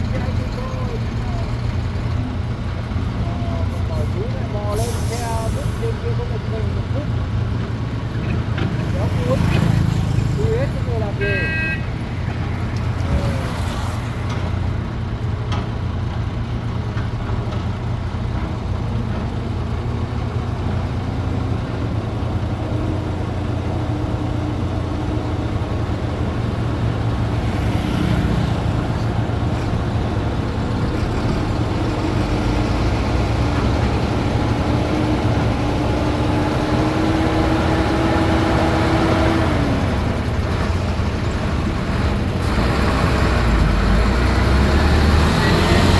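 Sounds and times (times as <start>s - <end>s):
heavy machinery diesel engines droning: 0.0s - 45.9s.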